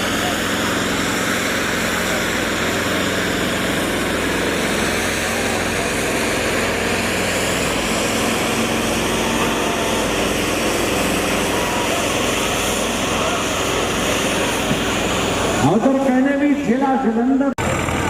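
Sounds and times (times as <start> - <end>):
diesel tractor engines running: 0.0 - 18.0.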